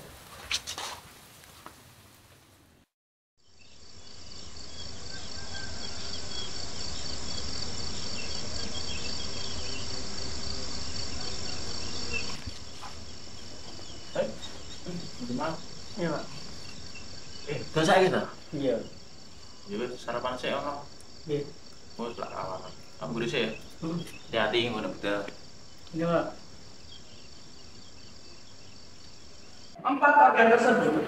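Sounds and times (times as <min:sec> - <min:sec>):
insects chirping: 0:03.4 - 0:31.0.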